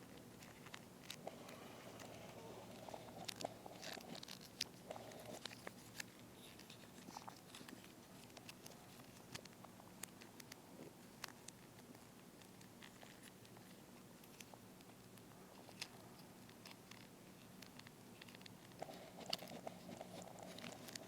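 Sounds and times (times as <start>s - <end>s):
plastic toy clicks and packaging crinkles: 2.0s - 21.0s.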